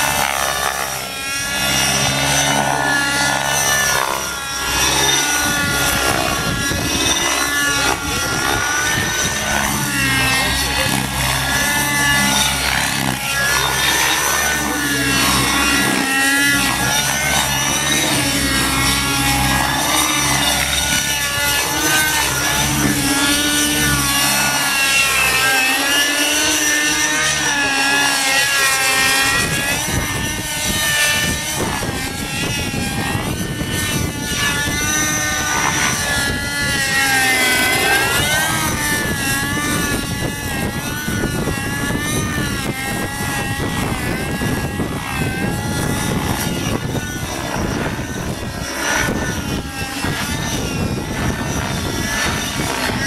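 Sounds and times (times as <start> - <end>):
model helicopter whining: 0.0 - 53.0.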